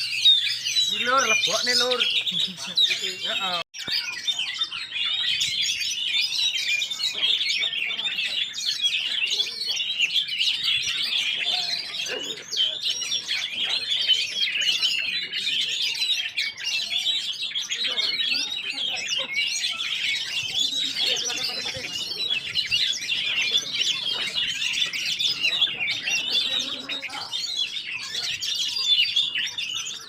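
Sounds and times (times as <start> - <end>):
songbirds chorus chirping: 0.0 - 30.0.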